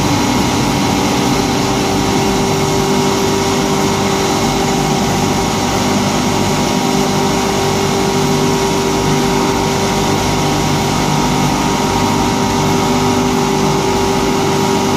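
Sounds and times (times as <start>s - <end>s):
dust extraction blowers: 0.0s - 14.9s.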